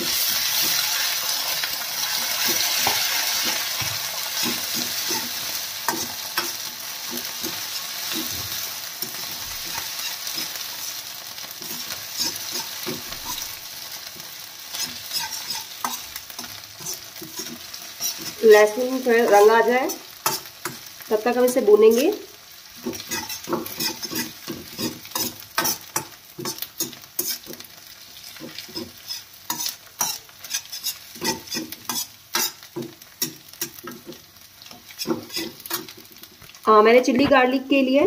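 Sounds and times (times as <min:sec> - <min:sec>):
spoon scraping and knocking pan: 0:00.0 - 0:01.1, 0:02.0 - 0:11.0, 0:11.6 - 0:22.1, 0:22.8 - 0:36.4
garlic sizzling in hot oil: 0:00.0 - 0:38.0.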